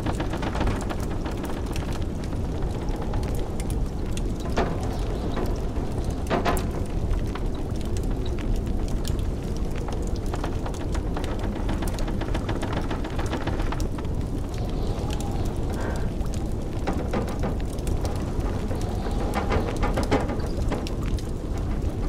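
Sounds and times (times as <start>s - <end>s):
blizzard wind rumble: 0.0s - 22.0s
wood fire crackling: 0.0s - 22.0s.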